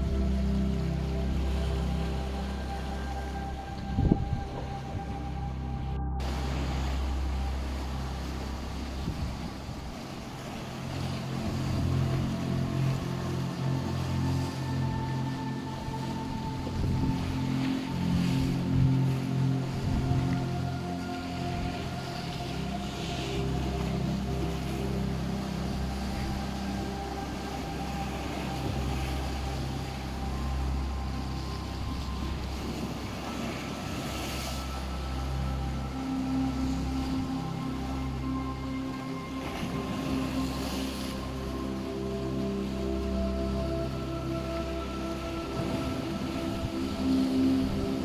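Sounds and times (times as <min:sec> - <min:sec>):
low ambient music drone: 0:00.0 - 0:48.0
sea waves breaking on rocks: 0:06.2 - 0:48.0.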